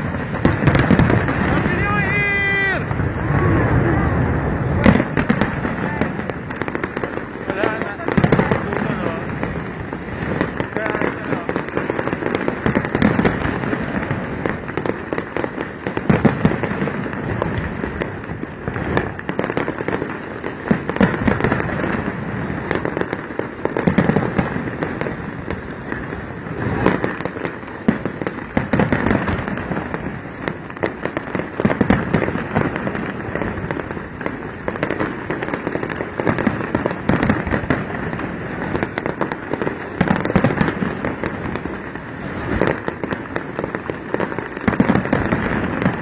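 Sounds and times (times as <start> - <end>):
fireworks bangs: 0.0 - 46.0
fireworks crackle: 0.0 - 46.0.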